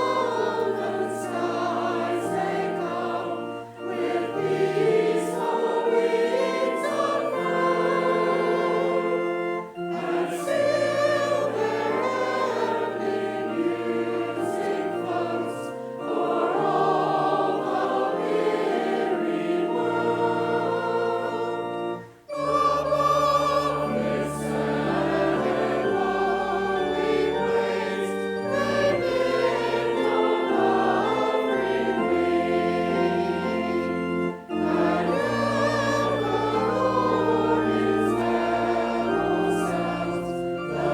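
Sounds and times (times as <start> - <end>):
choir singing a hymn: 0.0 - 40.9
organ bass notes: 0.0 - 40.9.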